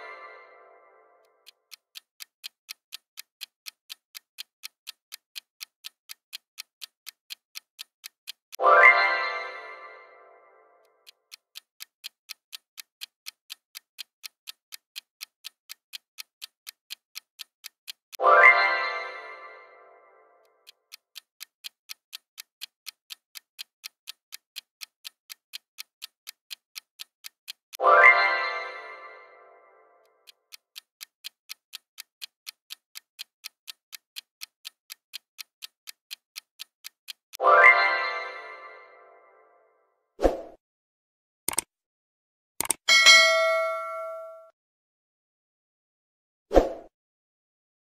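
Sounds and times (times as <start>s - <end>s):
clock ticking: 0.0s - 39.4s, 41.5s - 41.7s, 42.6s - 44.4s.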